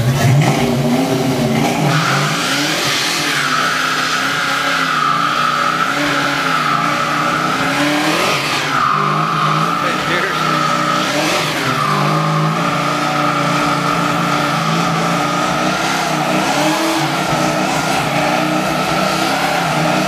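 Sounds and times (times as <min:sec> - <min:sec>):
car engine revving: 0:00.0 - 0:20.0
tyres squealing: 0:01.9 - 0:20.0.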